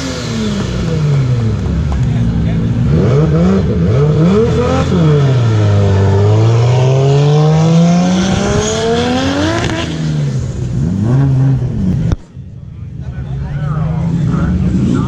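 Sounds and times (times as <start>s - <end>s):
car exhaust revving: 0.0s - 15.0s.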